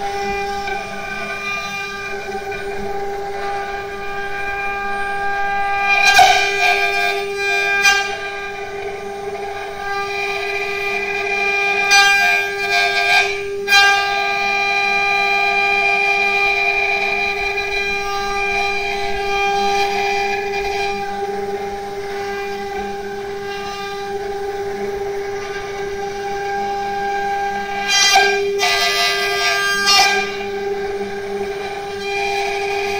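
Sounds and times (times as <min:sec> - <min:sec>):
bit cutting wood: 0:00.0 - 0:32.9
router spindle whining: 0:00.0 - 0:32.9.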